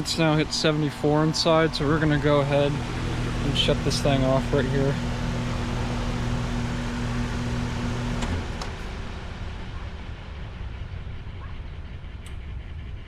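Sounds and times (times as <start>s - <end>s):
compressor humming: 0.0s - 12.5s.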